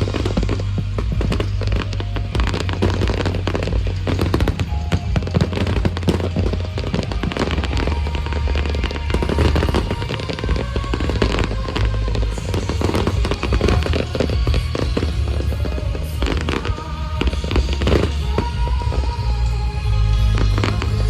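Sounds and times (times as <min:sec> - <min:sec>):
fireworks booming: 0:00.0 - 0:21.0
fireworks rapid crackle: 0:00.0 - 0:21.0
music playing: 0:00.0 - 0:21.0.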